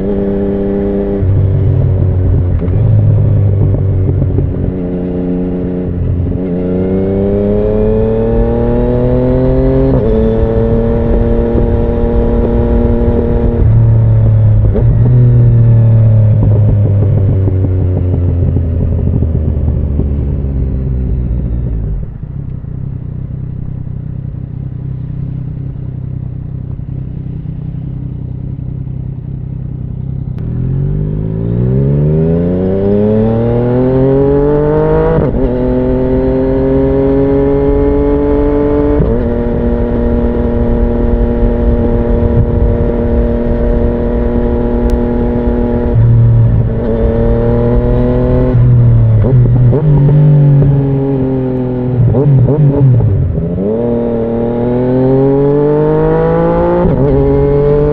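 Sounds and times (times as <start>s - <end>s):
motorcycle engine: 0.0s - 57.9s.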